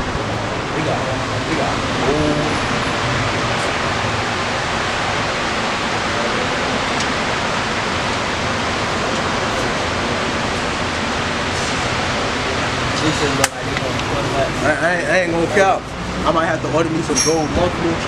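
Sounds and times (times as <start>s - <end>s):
loud rushing noise: 0.0s - 18.0s.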